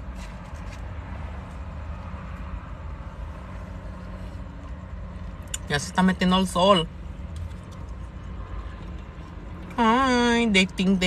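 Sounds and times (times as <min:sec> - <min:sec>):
vehicle rumble inside car: 0:00.0 - 0:11.0.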